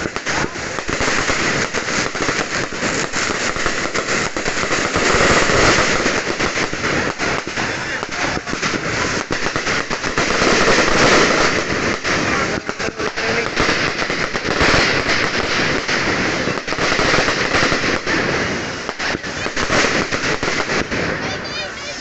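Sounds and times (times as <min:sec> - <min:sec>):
fireworks cracking and popping: 0:00.0 - 0:22.0.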